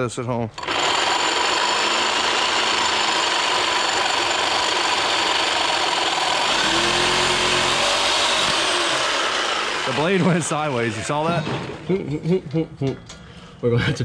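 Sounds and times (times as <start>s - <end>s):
reciprocating saw cutting metal pipe: 0.6s - 11.8s.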